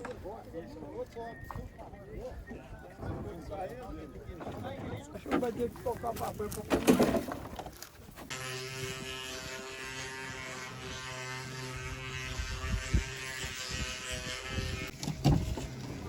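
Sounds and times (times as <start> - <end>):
wooden cart axle droning: 2.4 - 16.0.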